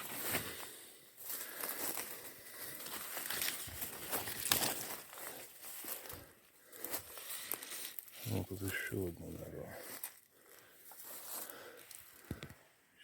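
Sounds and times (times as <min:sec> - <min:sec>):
vegetation rustling and crackling: 0:00.0 - 0:12.6
footsteps through undergrowth: 0:00.0 - 0:12.7.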